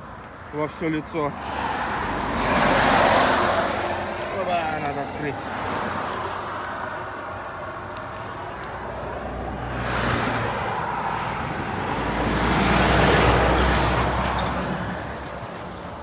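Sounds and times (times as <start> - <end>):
vehicles passing close by: 0.0 - 16.0.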